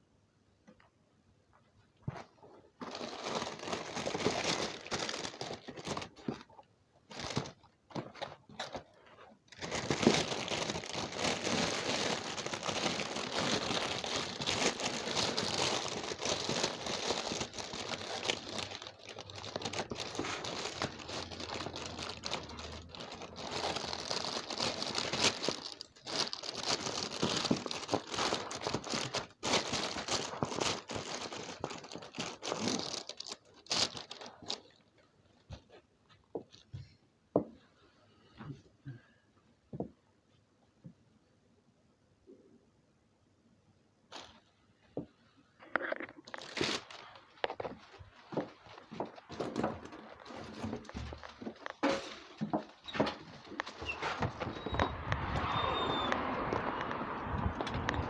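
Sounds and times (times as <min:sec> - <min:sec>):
material crinkling and crumpling: 0:01.6 - 0:37.0, 0:44.1 - 0:58.0.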